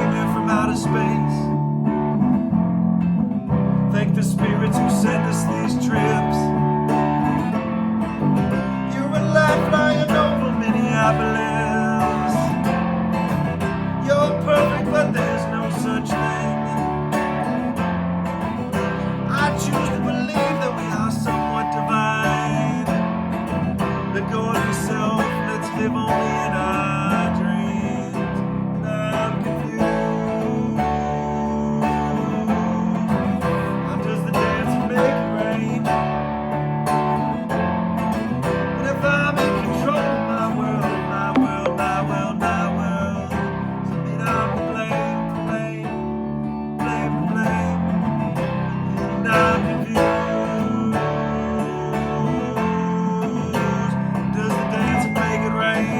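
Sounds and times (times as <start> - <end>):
guitar strummed and plucked: 0.0 - 55.9.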